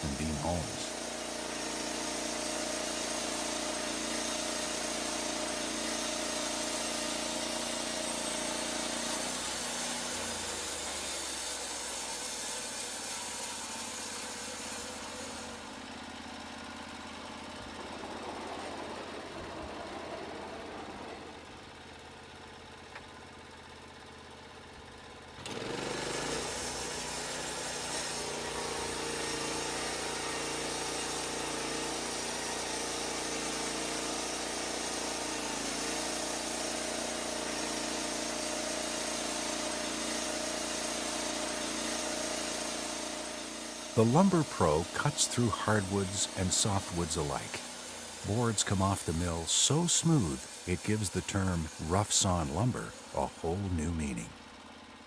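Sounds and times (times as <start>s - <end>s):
band sawmill engine humming: 0.0s - 22.8s, 25.8s - 54.8s.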